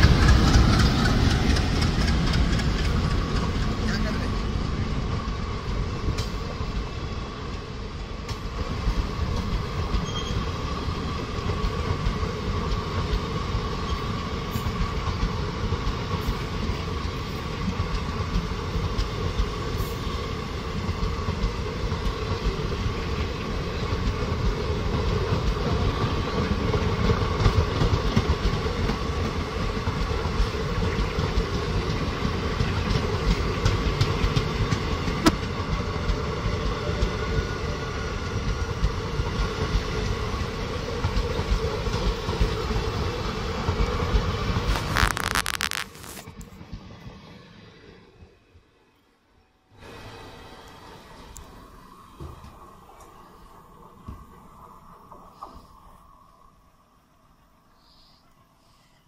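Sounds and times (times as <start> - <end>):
train wheels rolling on rails: 0.0 - 49.1.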